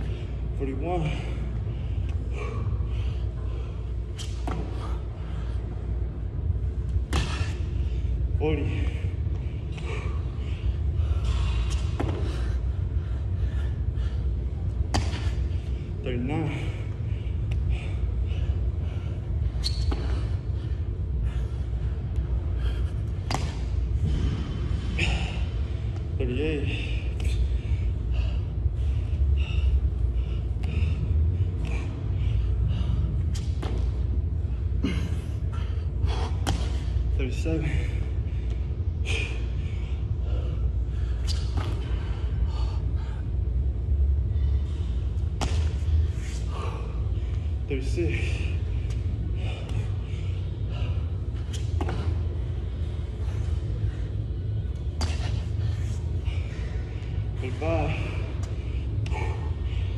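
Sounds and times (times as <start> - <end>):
gym background rumble: 0.0 - 59.9.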